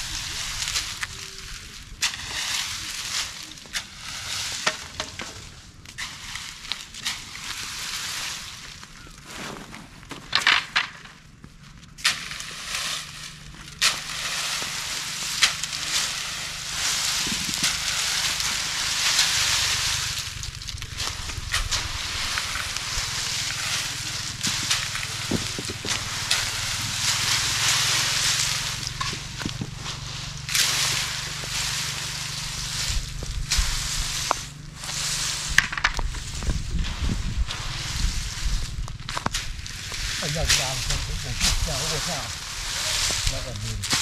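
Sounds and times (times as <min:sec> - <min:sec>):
dry plant stalks rustling: 0:00.0 - 0:44.0.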